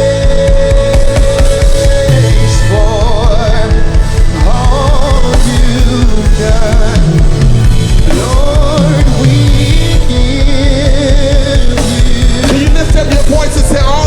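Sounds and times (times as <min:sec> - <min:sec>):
drum kit: 0:00.0 - 0:14.0
person singing long held notes: 0:00.0 - 0:14.0
worship band music: 0:00.0 - 0:14.0.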